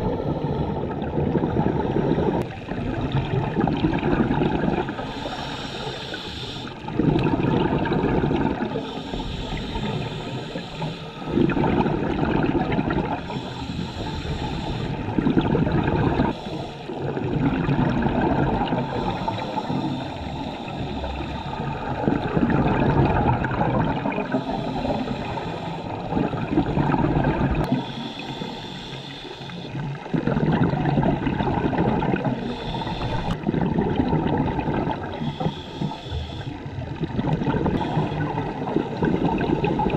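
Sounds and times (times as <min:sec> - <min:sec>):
exhaled bubbles gurgling underwater: 0:00.0 - 0:39.9.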